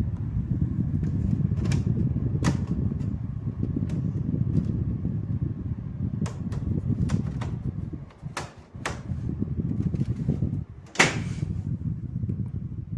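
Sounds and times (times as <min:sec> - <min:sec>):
air conditioner running: 0:00.0 - 0:12.9
air rumble on microphone: 0:00.0 - 0:12.9.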